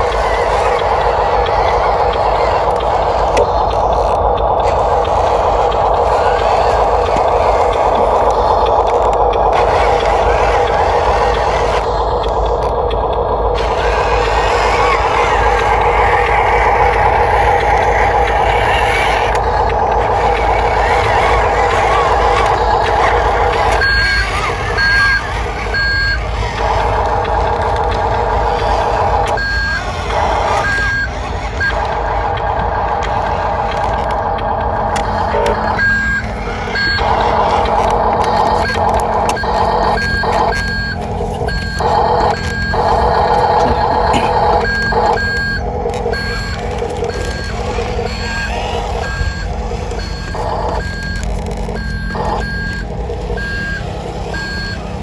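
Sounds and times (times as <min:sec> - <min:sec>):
electric motors and gears whirring: 0:00.0 - 0:55.0
steady low hum: 0:00.0 - 0:55.0
short reversing beeps: 0:04.7 - 0:32.3, 0:34.8 - 0:55.0.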